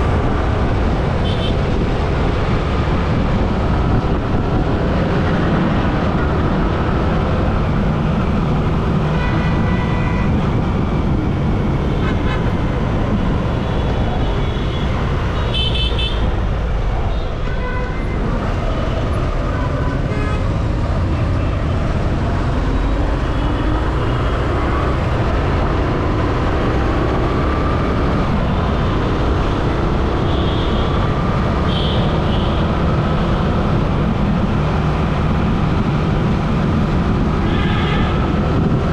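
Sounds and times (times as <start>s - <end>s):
vehicles rumbling: 0.0s - 38.9s.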